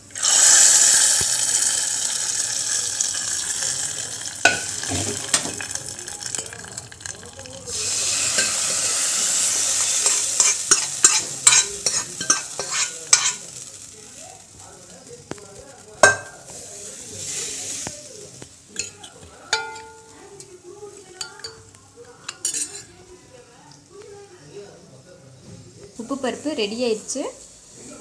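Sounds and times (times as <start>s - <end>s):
oil sizzling: 0.0s - 23.0s.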